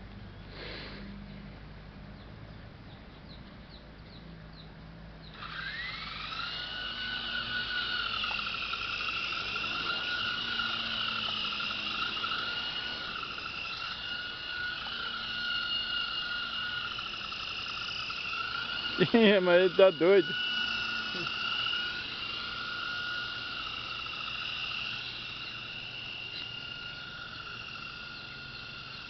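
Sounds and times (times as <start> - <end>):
toy helicopter motor whine: 5.2 - 29.0.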